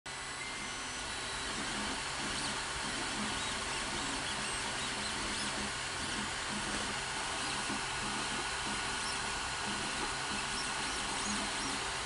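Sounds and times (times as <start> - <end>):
fan hiss: 0.1 - 12.0
stepper motor whines: 0.2 - 12.0.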